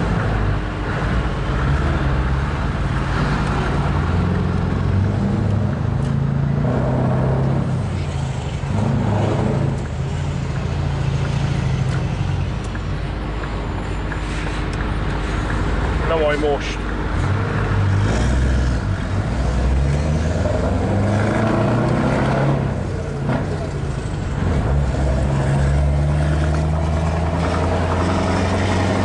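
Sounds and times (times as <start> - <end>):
diesel truck engine accelerating: 0.0 - 29.0.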